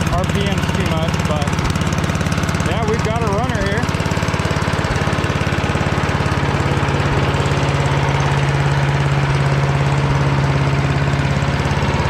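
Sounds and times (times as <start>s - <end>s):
small gas engine idling: 0.0s - 12.0s.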